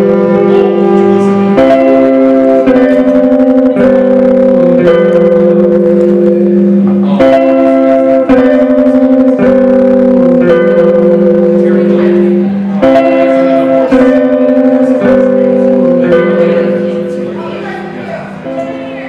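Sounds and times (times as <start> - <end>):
electric guitar playing chords: 0.0 - 19.0.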